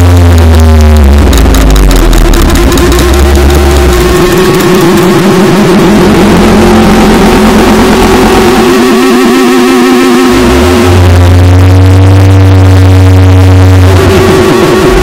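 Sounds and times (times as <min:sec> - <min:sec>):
distorted electronic noise: 0:00.0 - 0:15.0
steady low drone: 0:00.0 - 0:15.0.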